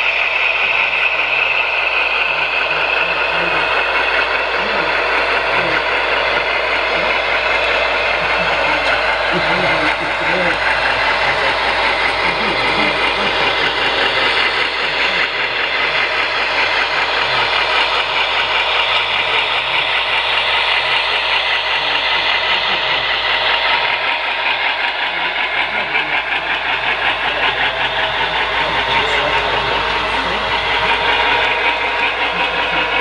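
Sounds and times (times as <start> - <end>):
model train running: 0.0 - 33.0.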